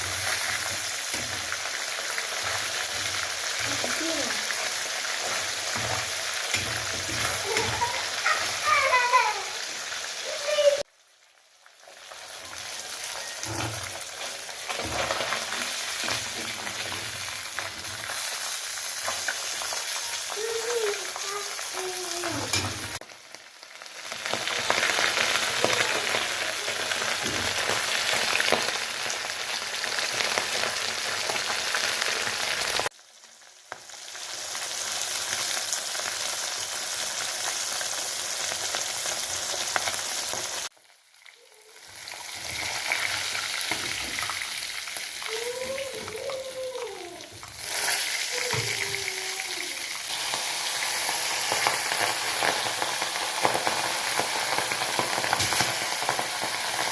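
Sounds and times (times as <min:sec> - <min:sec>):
food deep-frying in hot oil: 0:00.0 - 0:56.9.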